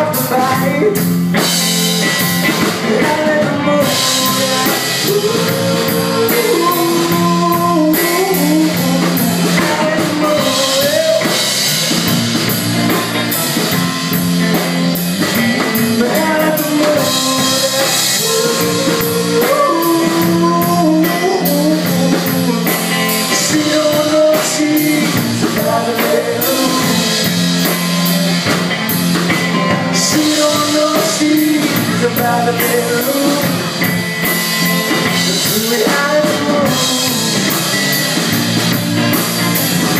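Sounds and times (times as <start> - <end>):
rock band playing: 0.0 - 39.9
lead guitar melody bending: 1.1 - 35.6.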